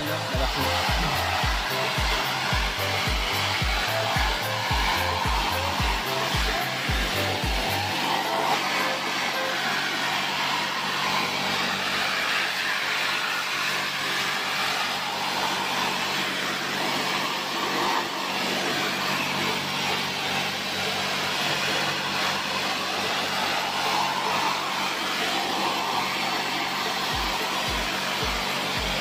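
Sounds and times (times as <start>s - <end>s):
pressure washer water jet hissing: 0.0s - 29.0s.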